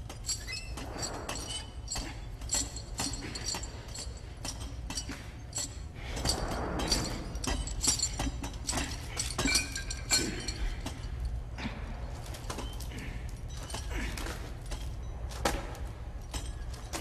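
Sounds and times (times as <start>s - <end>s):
heavy chains clinking and rattling: 0.0s - 17.0s.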